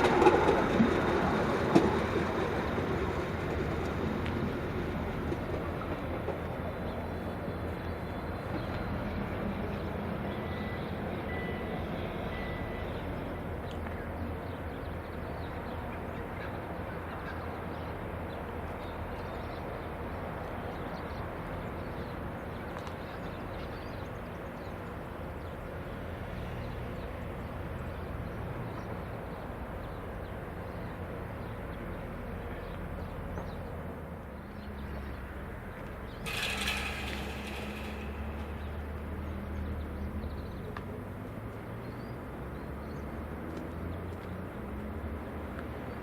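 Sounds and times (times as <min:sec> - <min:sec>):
rail grinding train noise: 0:00.0 - 0:41.7.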